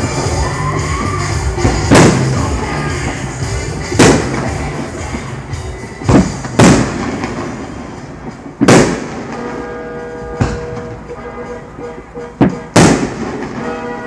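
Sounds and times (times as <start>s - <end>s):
firework shells booming: 1.0s - 5.3s, 6.0s - 14.0s.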